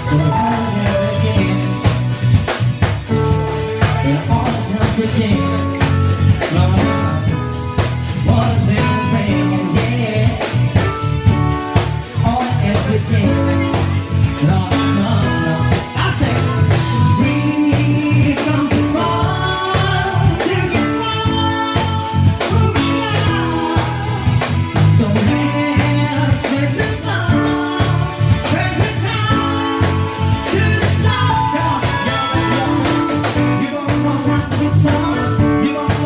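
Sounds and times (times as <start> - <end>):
live band playing dance music: 0.0 - 36.0
person singing into microphone: 0.0 - 36.0.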